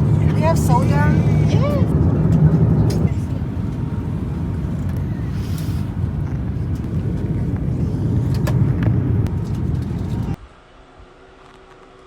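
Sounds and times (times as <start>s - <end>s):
airliner cabin rumble: 0.0s - 10.4s.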